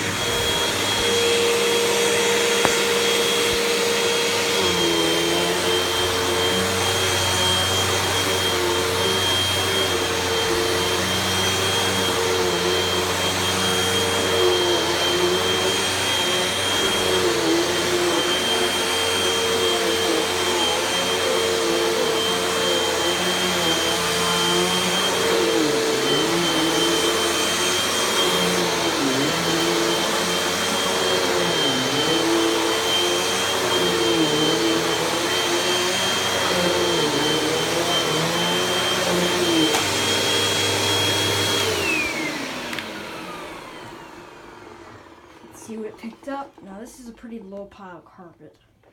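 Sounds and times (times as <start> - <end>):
vacuum cleaner running: 0.0 - 47.1.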